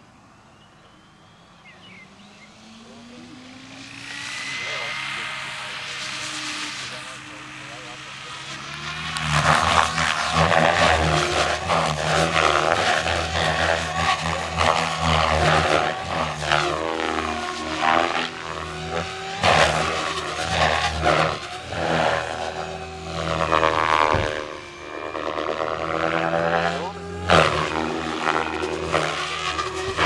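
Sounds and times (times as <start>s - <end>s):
drivetrain whine: 0.0s - 30.0s
helicopter rotor whooshing chop: 0.9s - 30.0s.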